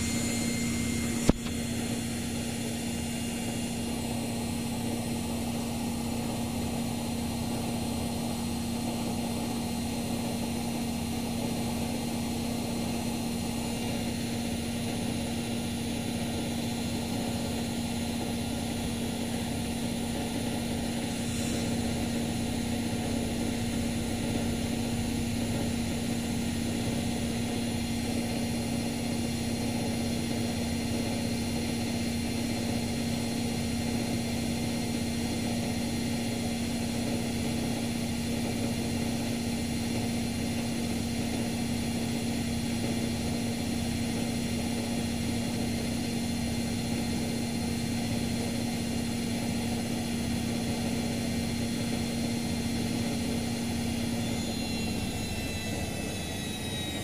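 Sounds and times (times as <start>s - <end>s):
washing machine motor whine: 0.0s - 57.0s.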